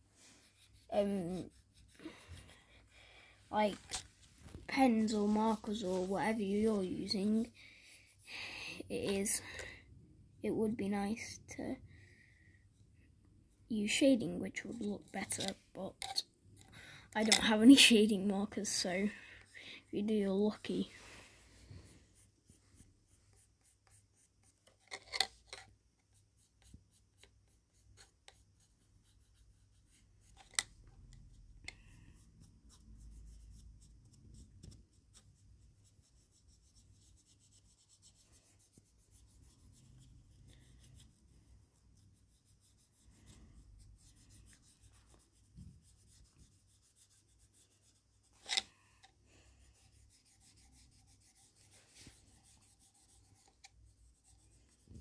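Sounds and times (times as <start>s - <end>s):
marker scratching on ornament: 0.2s - 2.9s, 4.7s - 9.4s, 14.6s - 20.9s, 21.6s - 49.0s, 49.6s - 55.0s.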